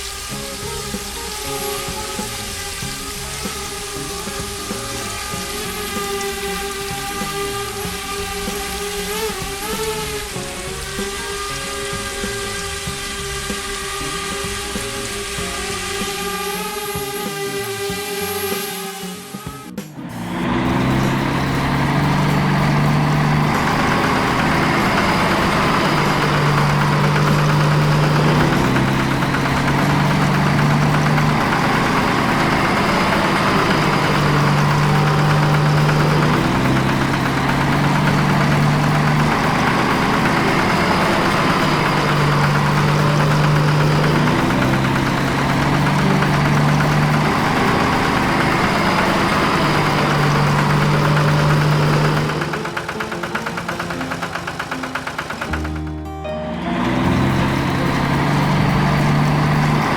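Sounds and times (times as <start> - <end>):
cartoon engine chugging: 0.0 - 59.9.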